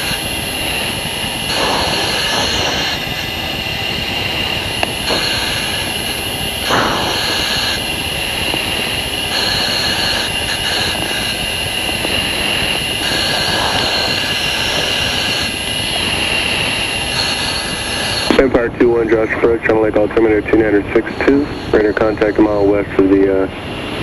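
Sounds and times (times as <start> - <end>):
high hiss: 0.0 - 24.0
jet engine: 0.0 - 24.0
rushing air: 0.0 - 24.0.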